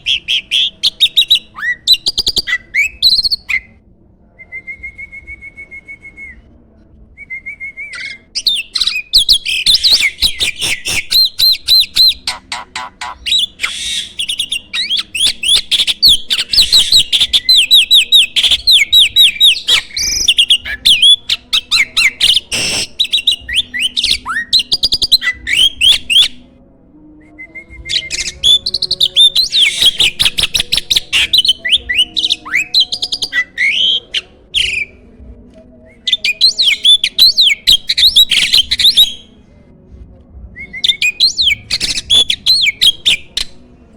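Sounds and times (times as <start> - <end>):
starling singing: 0.0 - 3.8, 7.8 - 26.5, 27.4 - 35.2, 35.8 - 39.4, 40.6 - 43.8.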